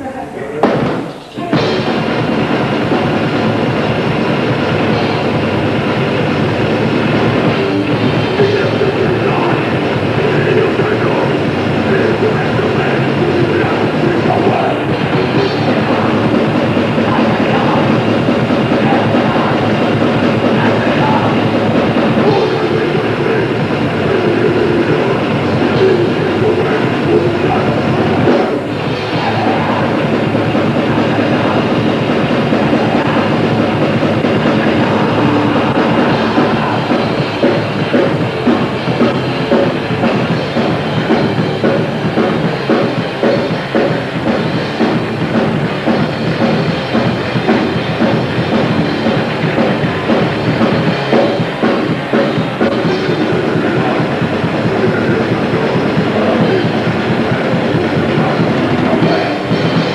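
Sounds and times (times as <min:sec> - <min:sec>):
grindcore band playing live: 0:00.0 - 0:59.9.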